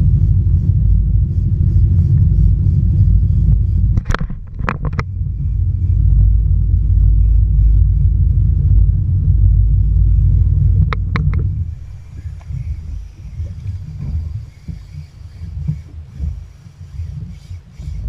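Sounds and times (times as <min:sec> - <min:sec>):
jet ski engine rumble: 0:00.0 - 0:18.0.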